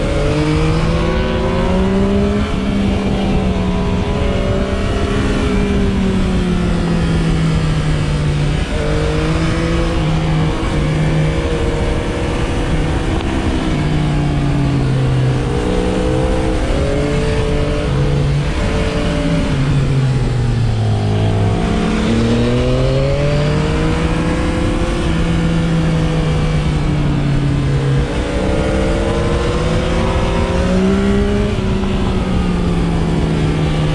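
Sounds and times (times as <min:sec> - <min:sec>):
motorcycle engine accelerating: 0:00.0 - 0:33.9
wind rumble on microphone: 0:00.0 - 0:33.9.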